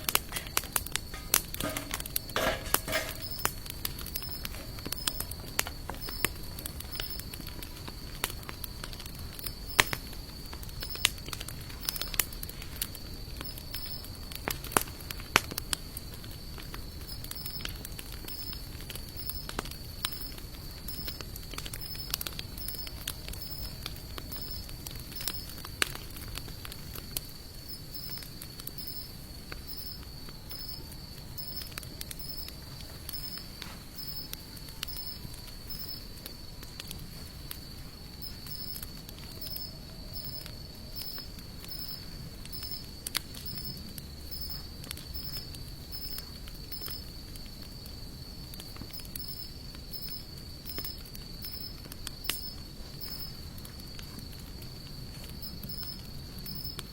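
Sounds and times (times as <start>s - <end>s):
campfire crackling and popping: 0.0s - 56.9s
insect trill: 0.0s - 56.9s.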